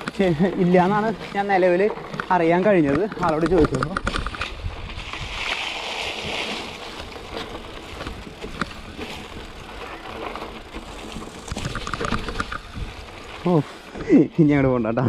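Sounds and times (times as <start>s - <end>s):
bike clicks and knocks: 0.0s - 5.7s, 6.3s - 14.1s
bike tyres crunching over dry leaves: 0.0s - 15.0s.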